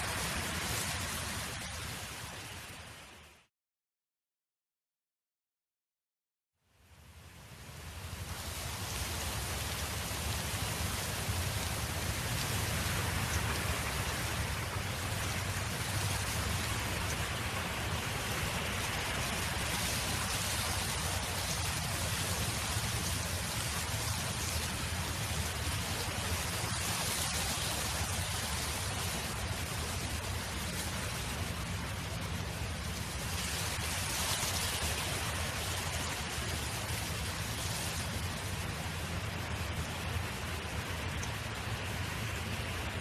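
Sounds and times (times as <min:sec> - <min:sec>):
wind blowing: 0:07.4 - 0:43.0.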